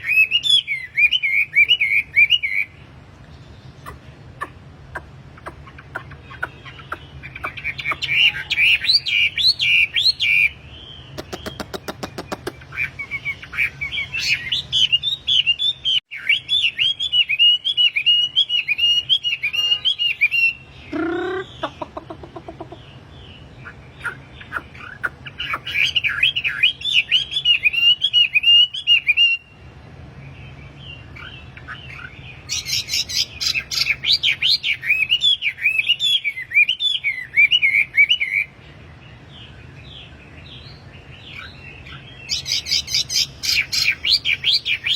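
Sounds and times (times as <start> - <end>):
songbird chirping: 0.0 - 44.9.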